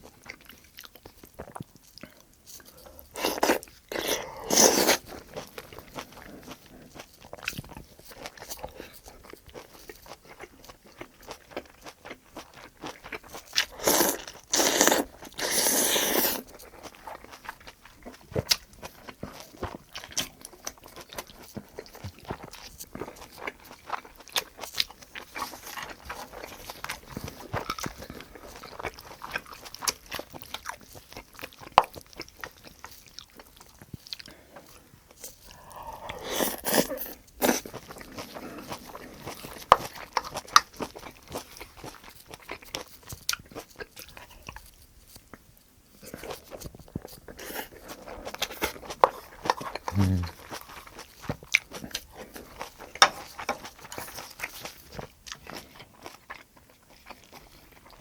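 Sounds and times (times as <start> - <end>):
person chewing and smacking: 0.0 - 58.0.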